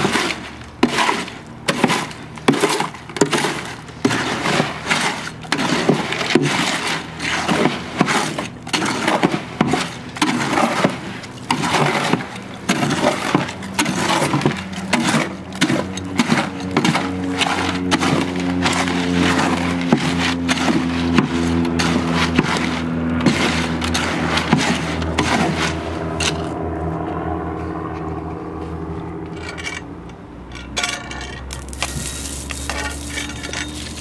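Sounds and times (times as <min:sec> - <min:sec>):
hoe scraping wet concrete: 0:00.0 - 0:29.9, 0:30.7 - 0:34.0
steady low hum: 0:00.0 - 0:34.0.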